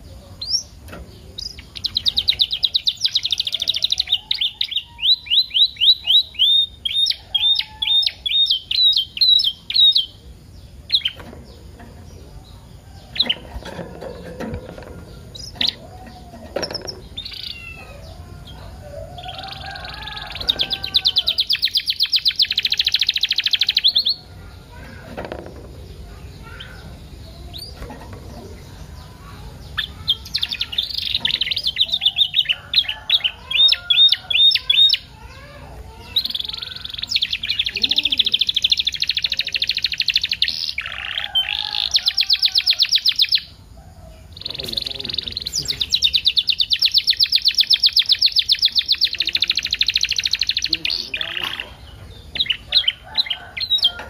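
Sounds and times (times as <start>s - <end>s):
canary chirps: 0.0s - 54.0s
canary trilling: 0.0s - 54.0s.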